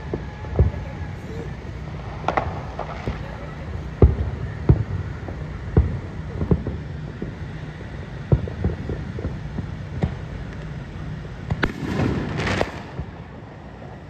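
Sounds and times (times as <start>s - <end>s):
distant fireworks booms: 0.0s - 14.0s
fireworks hissing and crackling: 0.0s - 14.0s
steady low rumble: 0.0s - 14.0s.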